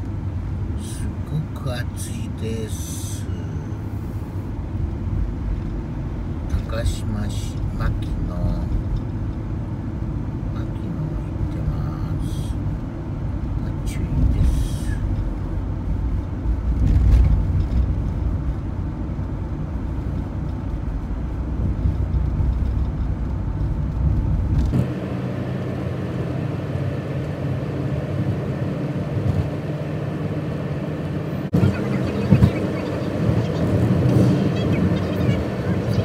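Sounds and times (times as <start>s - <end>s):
engine and tyre rumble: 0.0s - 36.0s.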